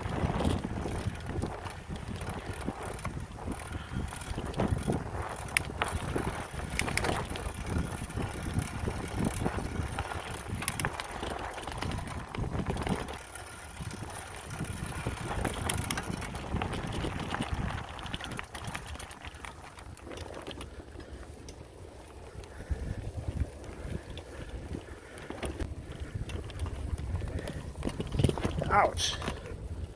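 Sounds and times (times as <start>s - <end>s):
bike clicks and knocks: 0.0s - 22.6s, 23.3s - 29.9s
bicycle tyres on dirt: 0.0s - 29.9s
wind on microphone: 0.0s - 29.9s.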